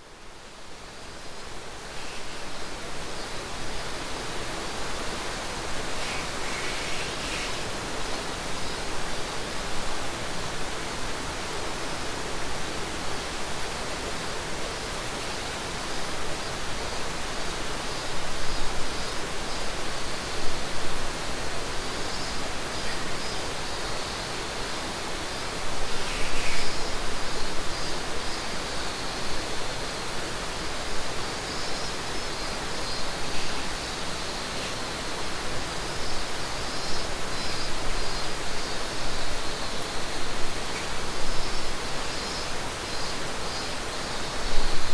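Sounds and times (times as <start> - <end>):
cicadas buzzing: 1.0 - 9.6, 17.4 - 44.9.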